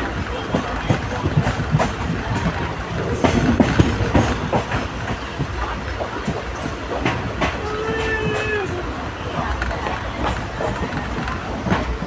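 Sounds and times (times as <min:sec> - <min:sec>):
train rumbling on rails: 0:00.0 - 0:12.0
wheels knocking and clattering: 0:00.0 - 0:12.0.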